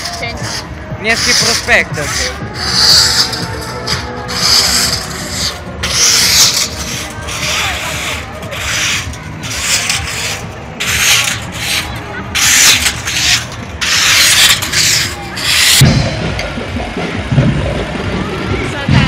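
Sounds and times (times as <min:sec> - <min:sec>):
brooms sweeping asphalt: 0:00.0 - 0:19.0
tractor engine rumble: 0:00.0 - 0:19.0.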